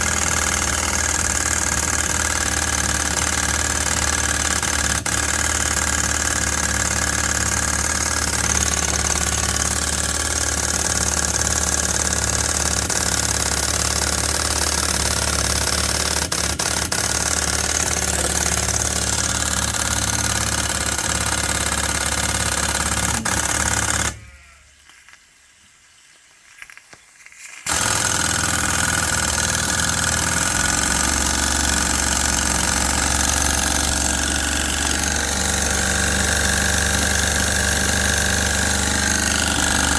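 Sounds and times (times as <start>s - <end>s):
steam pump running: 0.0s - 24.2s, 27.7s - 39.9s.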